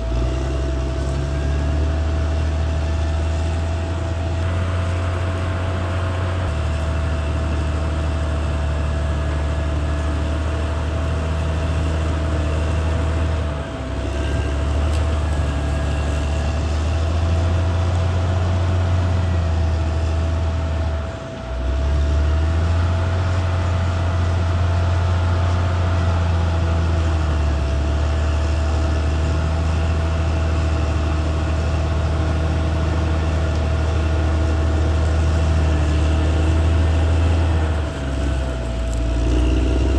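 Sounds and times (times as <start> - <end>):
bulldozer diesel engine running: 0.0 - 39.9
thin whine: 0.0 - 39.9.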